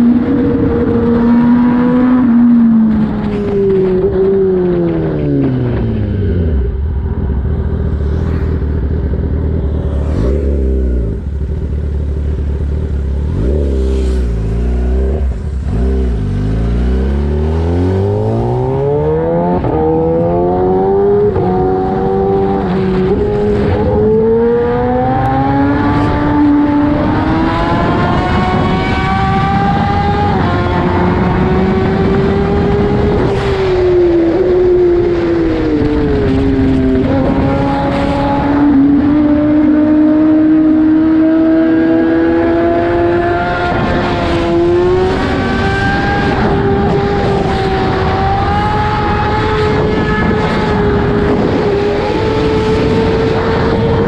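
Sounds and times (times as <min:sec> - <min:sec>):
motorcycle engine revving and accelerating: 0:00.0 - 0:54.0.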